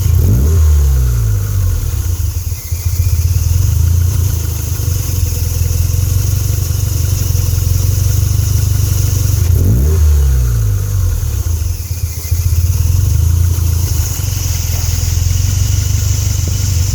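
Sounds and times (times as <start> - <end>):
car engine idling roughly: 0.0 - 16.9
engine revving: 0.0 - 16.9.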